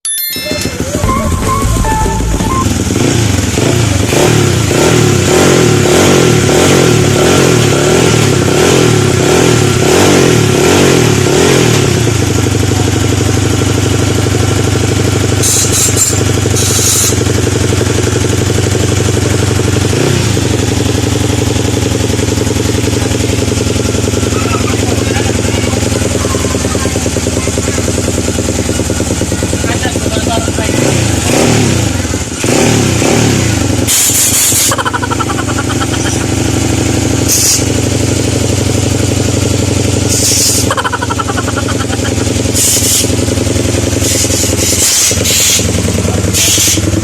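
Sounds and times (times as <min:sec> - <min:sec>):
motorcycle engine revving and idling: 0:00.6 - 0:47.0.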